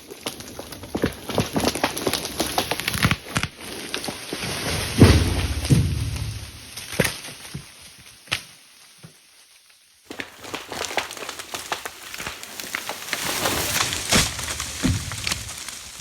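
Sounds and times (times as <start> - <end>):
dry branches crackling and snapping: 0.0 - 16.0.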